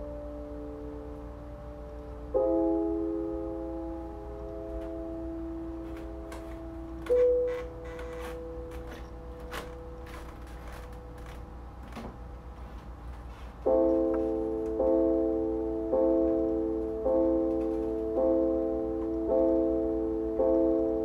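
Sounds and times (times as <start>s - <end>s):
keyboard chords: 0.0s - 12.8s, 13.6s - 21.0s.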